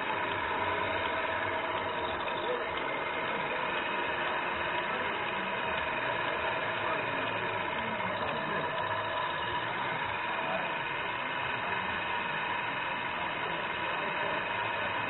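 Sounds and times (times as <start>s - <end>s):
model truck drivetrain whirring: 0.0s - 15.0s.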